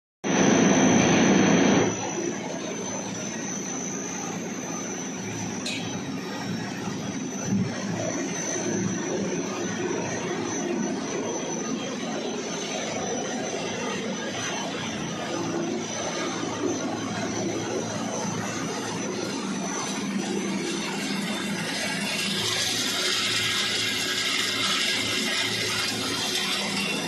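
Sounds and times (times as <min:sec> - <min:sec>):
production line machinery running: 0:00.3 - 0:27.0
thin high whine: 0:00.3 - 0:27.0.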